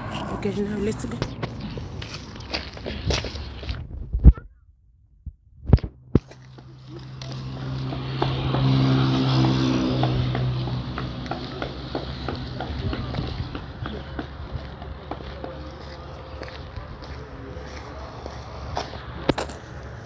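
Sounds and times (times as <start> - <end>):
vehicle engine passing by: 0.0 - 3.6, 6.0 - 20.0.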